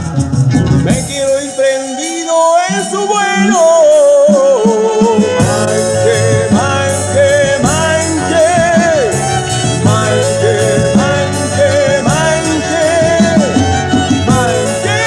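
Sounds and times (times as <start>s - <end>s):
folk band music: 0.0s - 15.0s.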